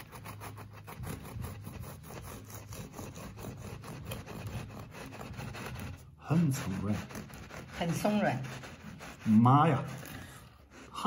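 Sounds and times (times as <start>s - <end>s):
knife sawing through bread: 0.0s - 11.0s.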